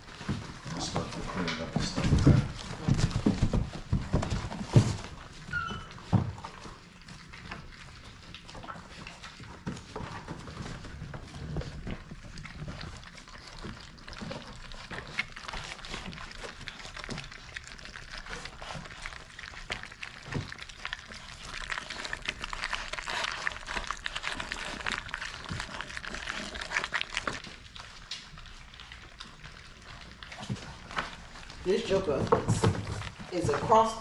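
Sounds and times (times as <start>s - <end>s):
puppies smacking and lapping food: 0.0s - 34.0s.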